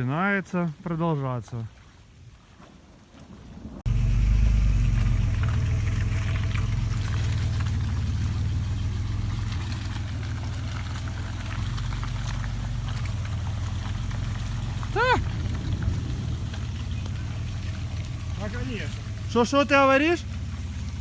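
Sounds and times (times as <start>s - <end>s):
car engine droning: 3.9s - 21.0s.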